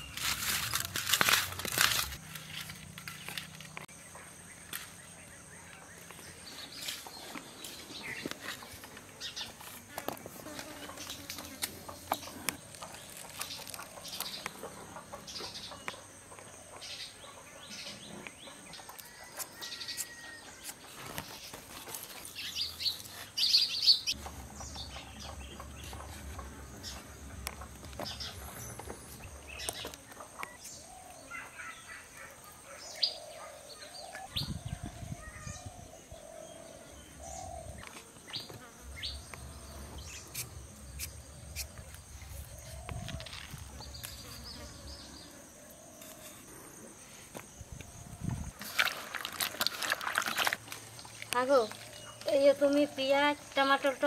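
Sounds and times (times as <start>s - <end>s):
birds chirping: 2.9s - 54.0s.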